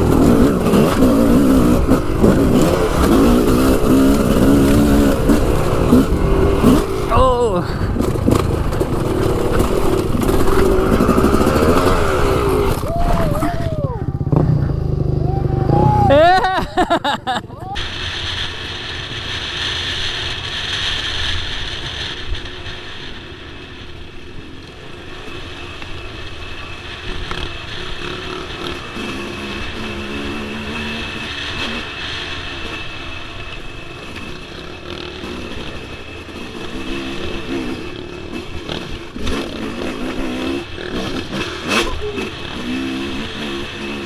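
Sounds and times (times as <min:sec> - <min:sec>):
dirt bike engine revving: 0:00.0 - 0:22.2, 0:25.0 - 0:44.0
steady rumbling rush: 0:00.0 - 0:44.0.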